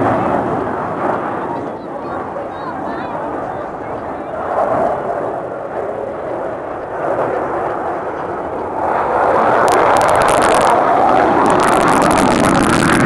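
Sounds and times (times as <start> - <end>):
fighter jet engine roaring overhead: 0.0 - 13.0.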